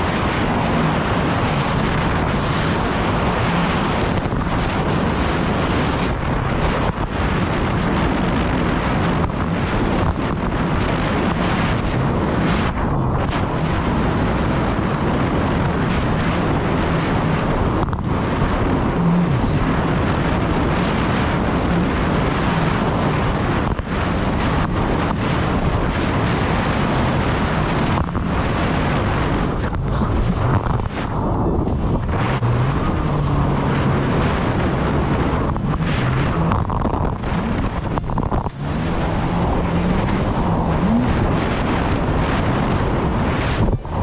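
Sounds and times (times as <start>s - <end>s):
jet ski engine drone: 0.0s - 44.0s
rushing water and spray: 0.0s - 44.0s
wind buffeting microphone: 0.0s - 44.0s.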